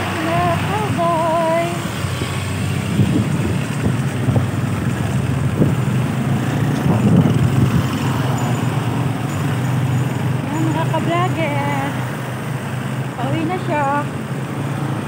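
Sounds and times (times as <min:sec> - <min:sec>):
street traffic noise: 0:00.0 - 0:15.0
vehicle engine humming: 0:00.0 - 0:15.0.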